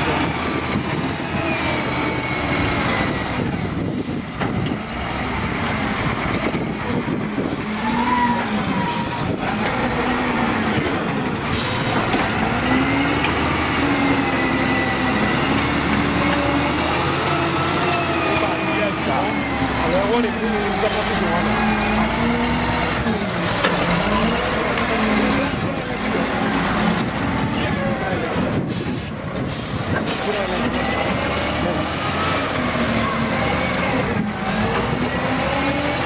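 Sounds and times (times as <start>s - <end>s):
diesel engine revving under load: 0.0s - 36.0s.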